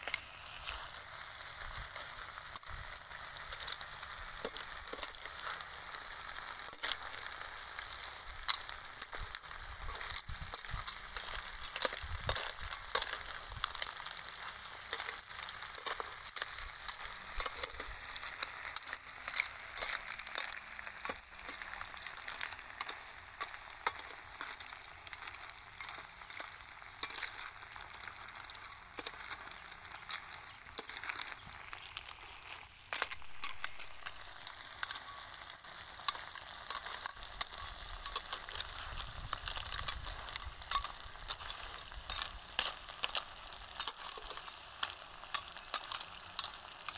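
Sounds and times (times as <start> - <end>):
metal ladle stirring shells: 0.0 - 46.9
snails sizzling in a pan: 0.0 - 46.9.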